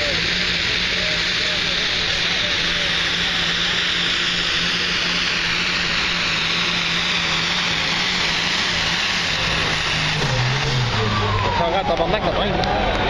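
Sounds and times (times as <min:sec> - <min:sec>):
diesel tractor engine under load: 0:00.0 - 0:13.0.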